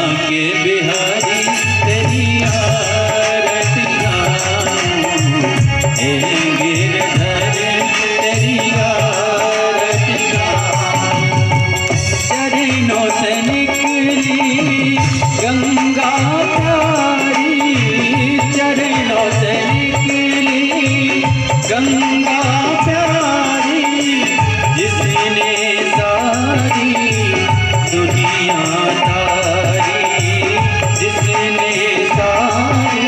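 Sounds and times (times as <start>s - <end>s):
harmonium and hand drum: 0.0s - 33.0s
person singing: 0.0s - 33.0s.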